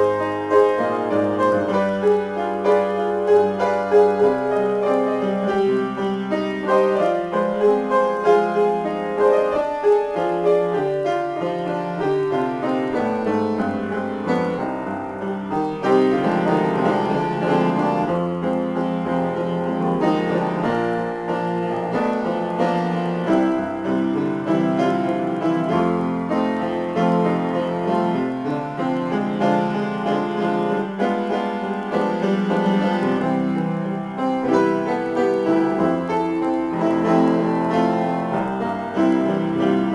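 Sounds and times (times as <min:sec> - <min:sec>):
solo acoustic piano: 0:00.0 - 0:39.9.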